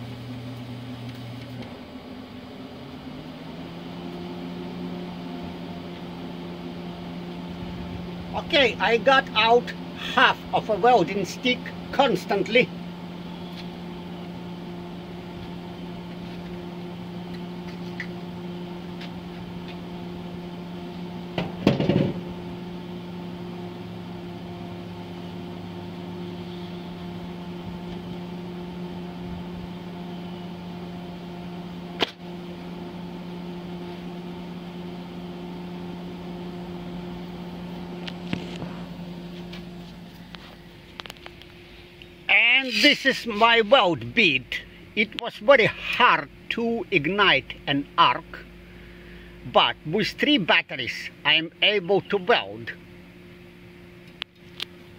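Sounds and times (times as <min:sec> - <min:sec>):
welder electrical hum: 0:00.0 - 0:54.9.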